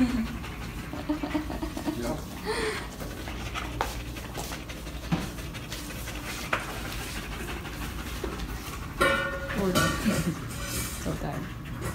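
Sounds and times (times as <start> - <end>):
dog panting: 0.0 - 11.9.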